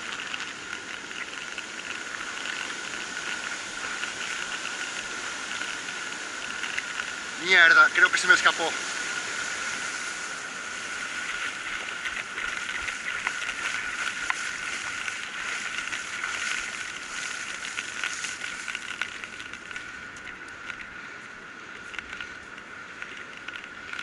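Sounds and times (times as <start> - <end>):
steady high whine: 0.0 - 24.0
surf washing over sand: 0.0 - 24.0.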